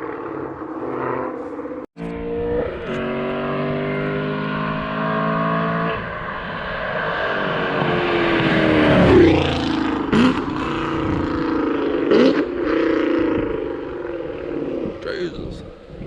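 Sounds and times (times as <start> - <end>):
car exhaust accelerating: 0.0 - 16.0.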